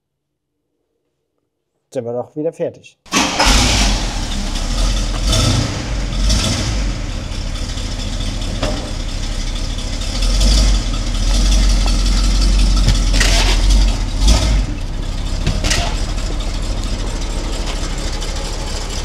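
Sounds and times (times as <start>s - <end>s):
car engine rumbling: 3.1s - 19.0s.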